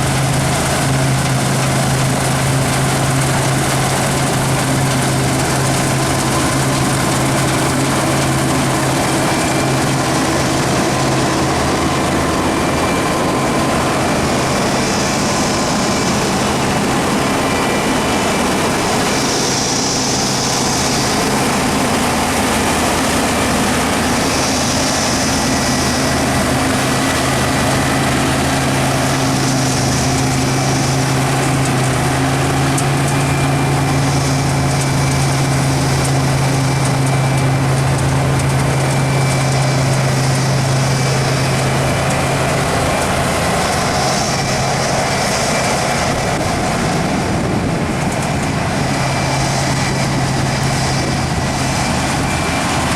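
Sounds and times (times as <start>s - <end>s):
combine harvester humming: 0.0s - 52.9s.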